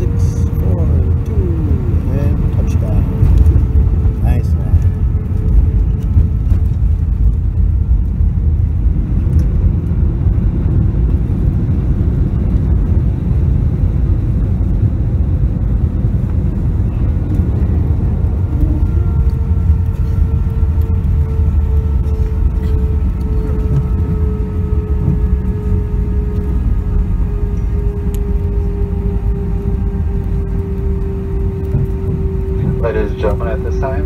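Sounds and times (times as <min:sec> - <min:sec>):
airliner cabin rumble: 0:00.0 - 0:34.0
jet engine hum: 0:00.0 - 0:34.0.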